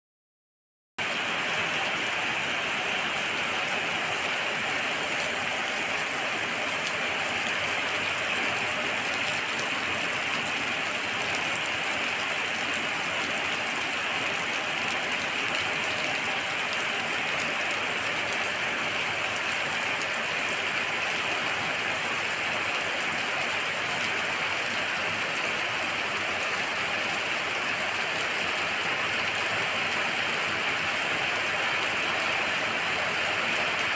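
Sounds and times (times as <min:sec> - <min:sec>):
heavy rain pouring: 0:01.0 - 0:33.9.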